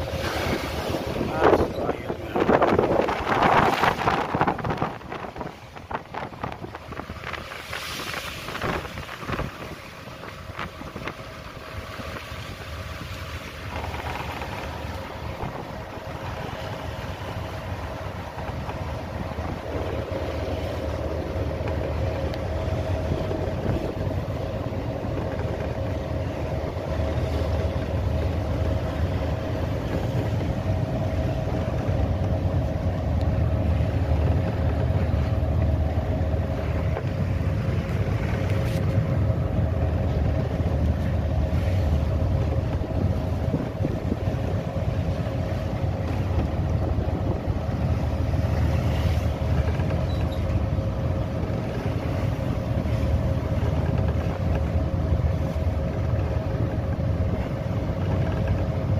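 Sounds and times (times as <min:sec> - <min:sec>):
boat engine drone: 0:00.0 - 0:58.9
wind and water noise: 0:00.0 - 0:58.9.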